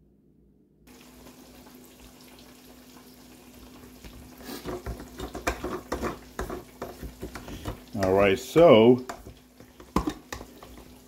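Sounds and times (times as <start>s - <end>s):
fish frying in hot oil: 0.9s - 11.0s.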